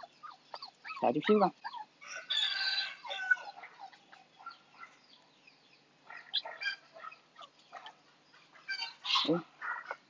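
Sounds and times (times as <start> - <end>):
high-pitched animal calls: 0.0 - 5.0, 6.0 - 10.0.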